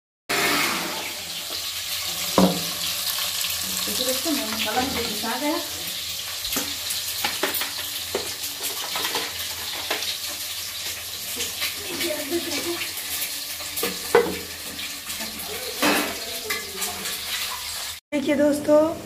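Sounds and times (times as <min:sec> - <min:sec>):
food sizzling in a pan: 0:00.3 - 0:18.9.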